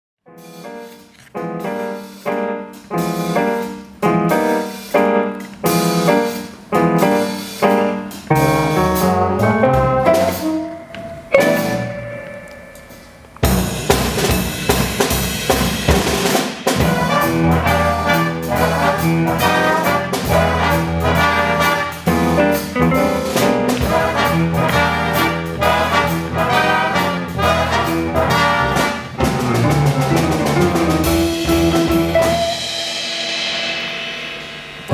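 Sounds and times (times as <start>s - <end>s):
jazz big band playing: 0.3s - 34.9s.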